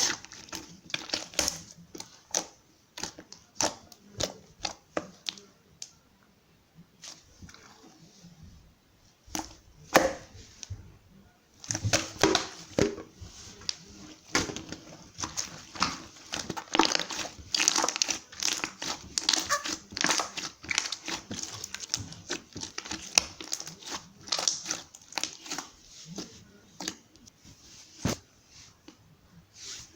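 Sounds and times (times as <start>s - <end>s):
crinkling and rustling handling: 0.0s - 6.2s, 6.9s - 29.9s.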